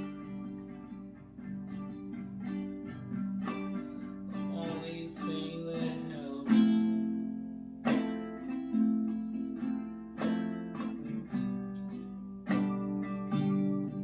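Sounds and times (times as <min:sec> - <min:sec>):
acoustic guitar strumming slow chords: 0:00.0 - 0:14.0.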